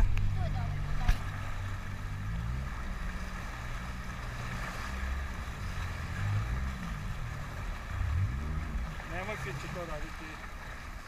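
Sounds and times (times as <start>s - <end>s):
motorboat engine running: 0.0s - 11.0s
water rushing past hull: 0.0s - 11.0s.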